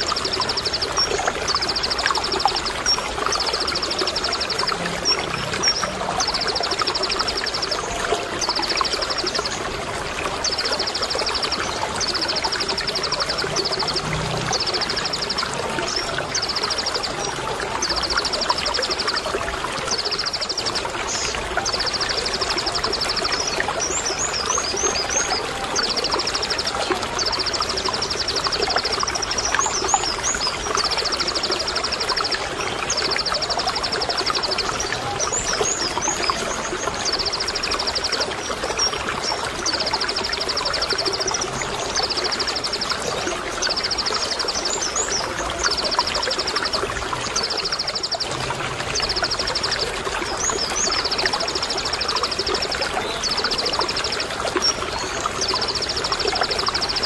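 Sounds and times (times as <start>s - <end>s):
bird high rapid trills: 0.0s - 48.3s, 48.9s - 57.0s
trickling water: 0.0s - 57.0s.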